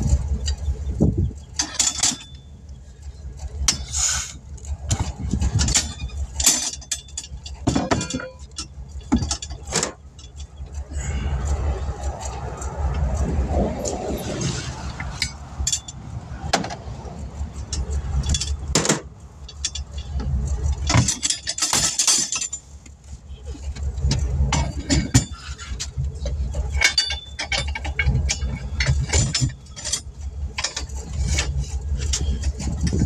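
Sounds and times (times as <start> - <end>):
metal tools clinking and knocking: 0.0 - 33.0
steady low rumble: 0.0 - 33.0.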